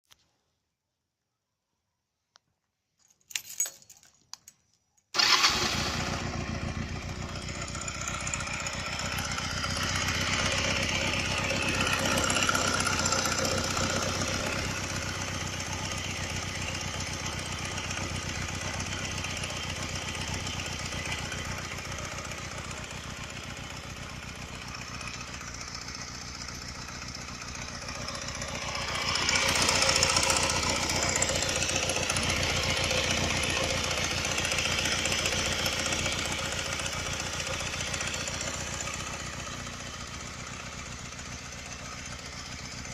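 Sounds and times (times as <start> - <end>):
motorcycle engine running: 5.2 - 42.9.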